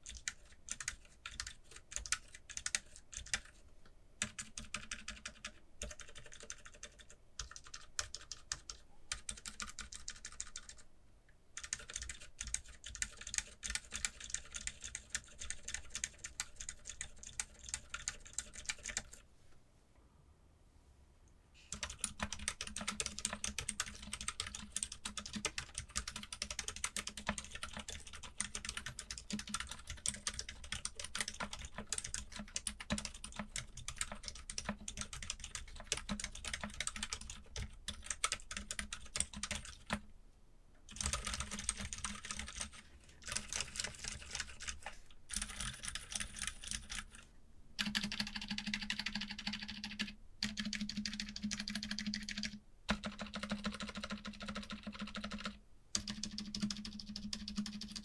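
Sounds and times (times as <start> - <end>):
fast typing on a keyboard: 0.0 - 3.6, 4.2 - 10.8, 11.6 - 19.2, 21.7 - 40.0, 40.9 - 47.2, 47.8 - 58.0.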